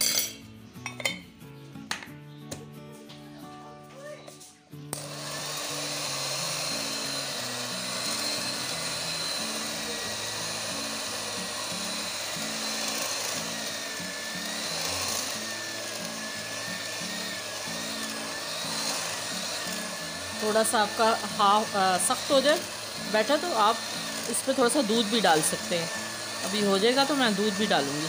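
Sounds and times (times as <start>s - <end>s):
background music: 0.0s - 28.0s
electric hand mixer whining: 4.9s - 28.0s.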